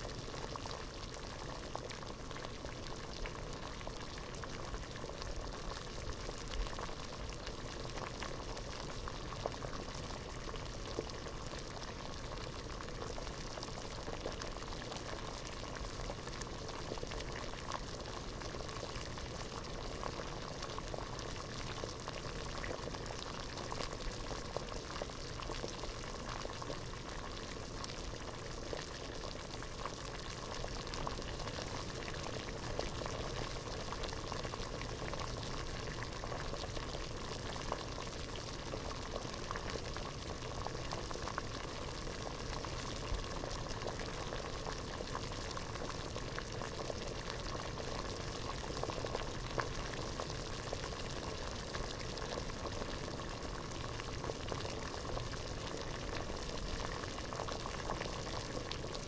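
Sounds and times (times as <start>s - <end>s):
water boiling and bubbling: 0.0s - 59.0s.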